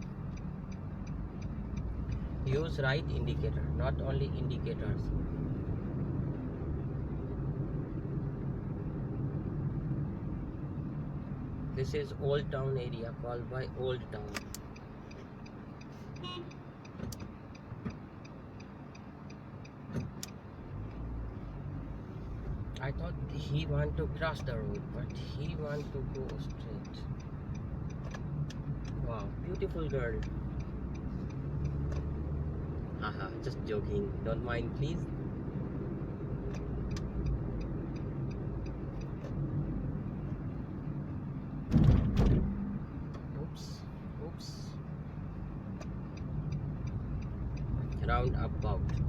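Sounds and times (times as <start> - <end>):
turn signal ticking: 0.0 - 41.8, 42.4 - 49.0
engine and road rumble in car: 0.0 - 49.0.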